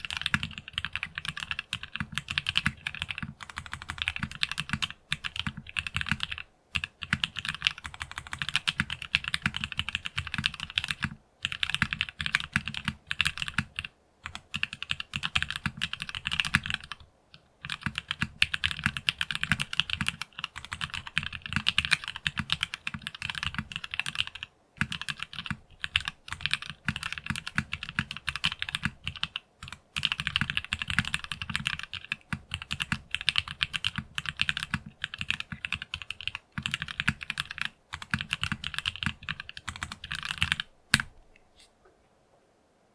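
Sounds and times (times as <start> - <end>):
mechanical keyboard typing: 0.0 - 17.0, 17.6 - 41.1.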